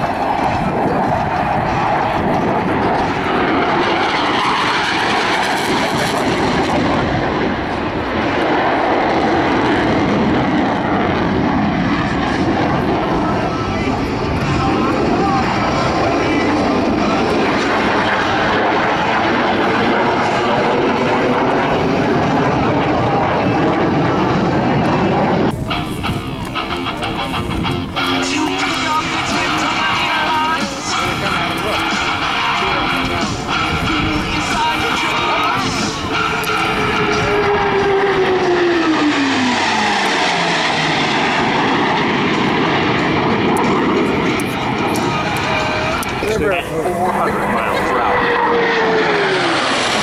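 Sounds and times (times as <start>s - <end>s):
loud jet engine noise: 0.0s - 50.0s.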